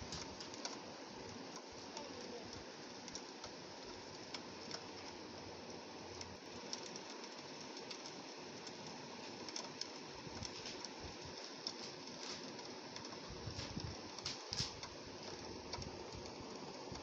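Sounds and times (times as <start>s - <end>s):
rain on window glass: 0.0s - 17.0s
raindrops ticking on pane: 0.0s - 17.0s.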